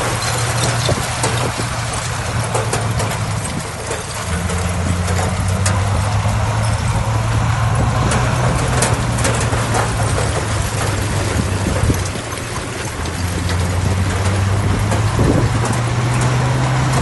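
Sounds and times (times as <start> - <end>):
heavy diesel machinery running: 0.0 - 17.0
sharp metal clanks and knocks: 0.0 - 17.0.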